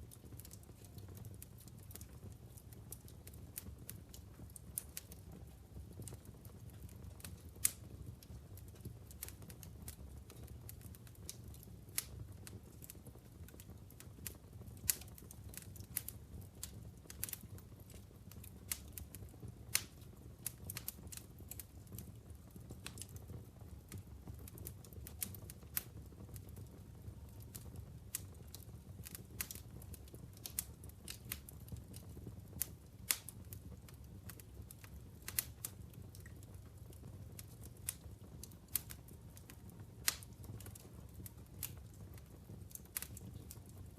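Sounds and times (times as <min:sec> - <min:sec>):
logs crackling in a fireplace: 0:00.0 - 0:43.9
low fire rumble: 0:00.0 - 0:43.9.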